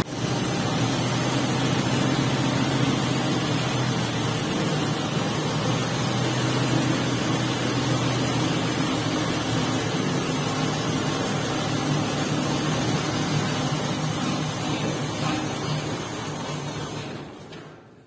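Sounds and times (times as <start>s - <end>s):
truck engine running: 0.0s - 17.6s.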